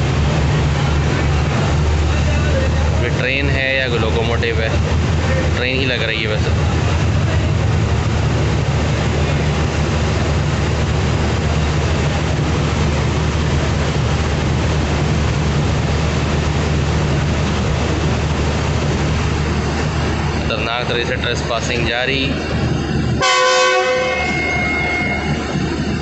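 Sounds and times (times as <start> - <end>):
diesel locomotive engine humming: 0.0 - 26.0.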